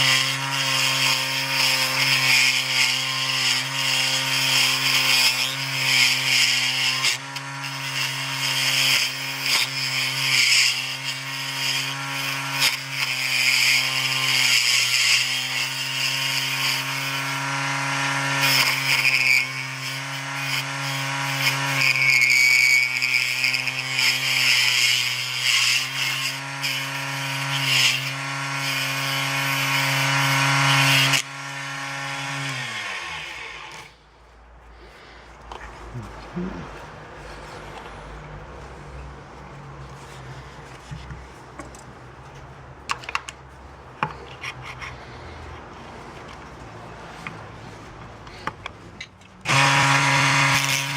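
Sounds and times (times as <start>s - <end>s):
tool scraping spinning wood: 0.0s - 50.9s.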